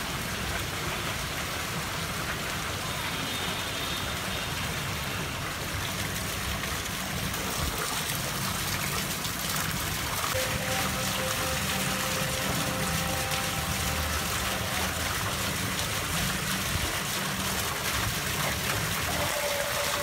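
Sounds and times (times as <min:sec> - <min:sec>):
fountain splashing onto pond: 0:00.0 - 0:20.0.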